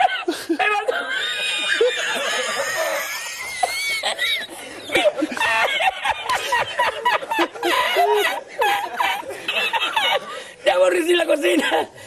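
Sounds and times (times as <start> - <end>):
man laughing uncontrollably: 0.0 - 10.3.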